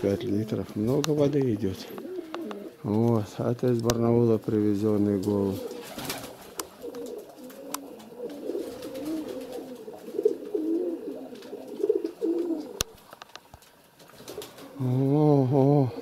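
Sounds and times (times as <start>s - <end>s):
pigeons cooing: 0.0s - 3.1s, 4.5s - 13.0s, 14.1s - 16.0s.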